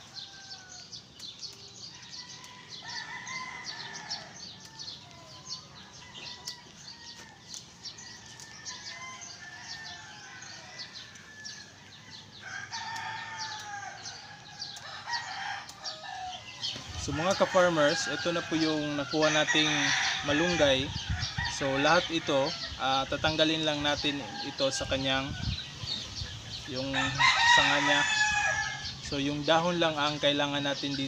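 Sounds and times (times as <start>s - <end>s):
roosters crowing: 0.0s - 31.0s
small birds chirping: 0.0s - 31.0s.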